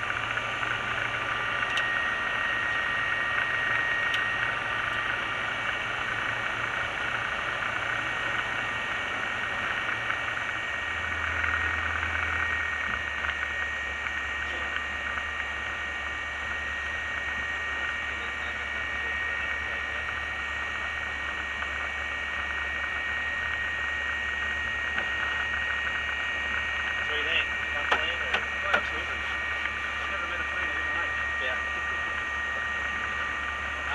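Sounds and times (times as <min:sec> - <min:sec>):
aircraft engine droning: 0:00.0 - 0:33.9.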